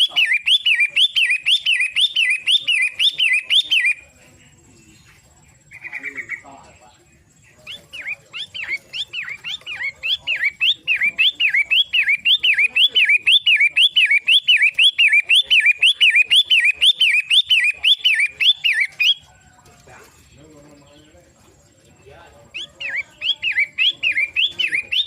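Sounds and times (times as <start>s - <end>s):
bird singing whistled notes: 0.0s - 19.5s, 22.5s - 25.0s.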